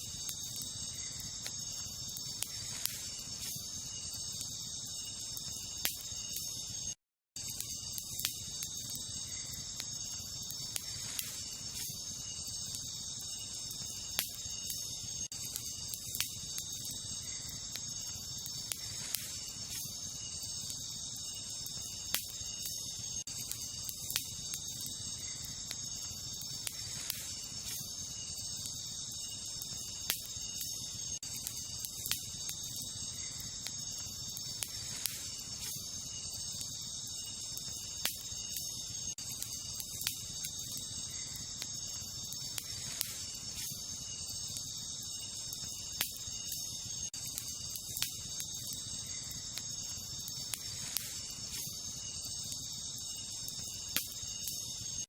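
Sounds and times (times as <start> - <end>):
campfire crackling: 0.0 - 55.0
crickets and night insects: 0.0 - 55.0
sharp fire pops: 0.0 - 55.0.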